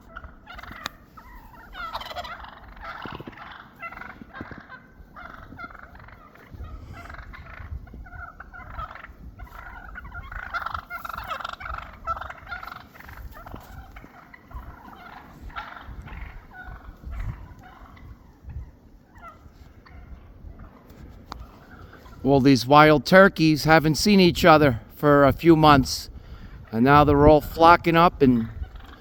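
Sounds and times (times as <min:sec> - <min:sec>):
turkeys calling: 0:00.0 - 0:29.0.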